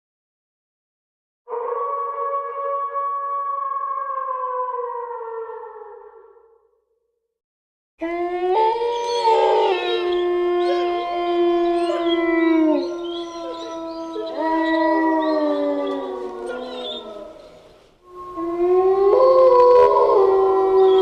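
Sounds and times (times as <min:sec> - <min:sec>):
wolves howling: 0:01.5 - 0:06.2, 0:08.0 - 0:21.0.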